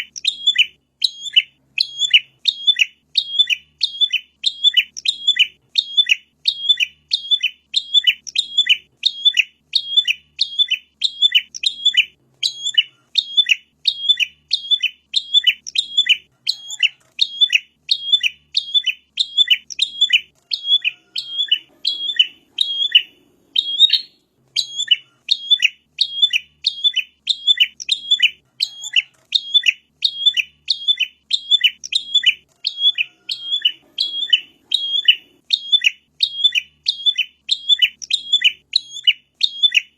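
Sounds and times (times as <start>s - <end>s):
bird calling sharp chirps: 0.0s - 39.9s.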